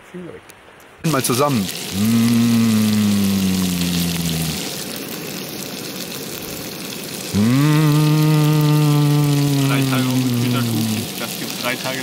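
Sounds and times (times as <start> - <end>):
tofu sizzling in hot oil: 1.1 - 12.0.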